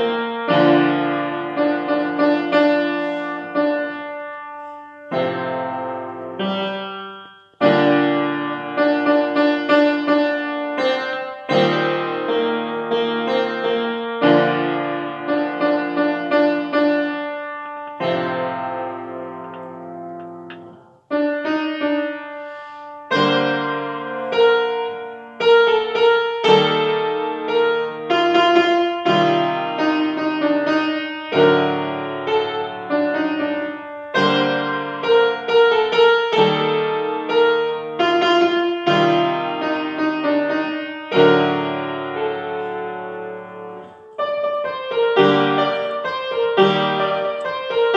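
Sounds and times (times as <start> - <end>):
grand piano playing: 0.0 - 47.9.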